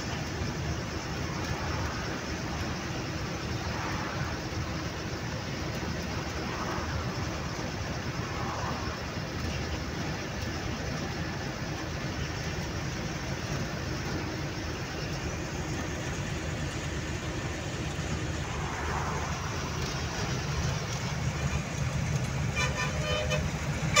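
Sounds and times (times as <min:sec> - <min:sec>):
hiss: 0:00.0 - 0:24.0
truck engine drone: 0:00.0 - 0:24.0.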